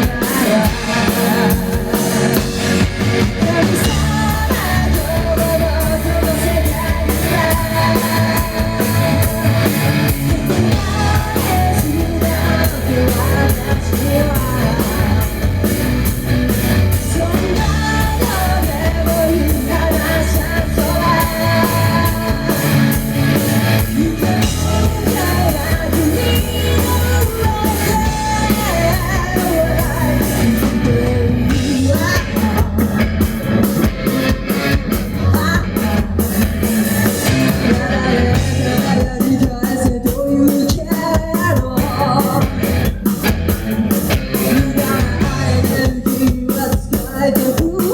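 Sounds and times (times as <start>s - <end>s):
person singing: 0.0s - 16.0s, 16.8s - 43.0s, 43.6s - 47.9s
rock band playing live: 0.0s - 47.9s.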